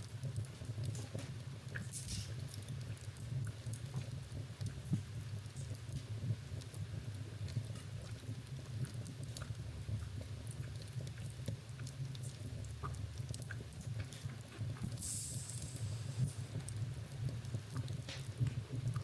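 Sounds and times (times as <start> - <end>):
wood fire crackling: 0.2 - 19.0.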